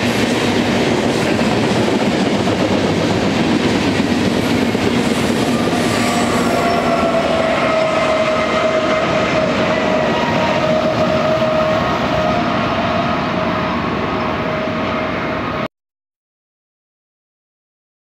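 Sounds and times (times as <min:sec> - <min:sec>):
freight train rolling on rails: 0:00.0 - 0:15.7.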